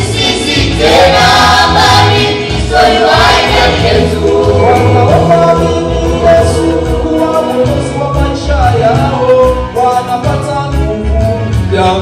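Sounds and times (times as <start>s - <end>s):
gospel choir singing with band: 0.0s - 10.8s.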